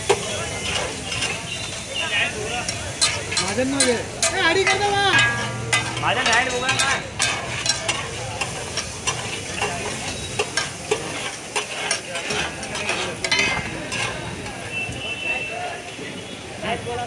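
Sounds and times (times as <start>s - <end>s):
metal spatulas scraping on griddle: 0.0s - 14.8s
food sizzling: 0.0s - 17.0s.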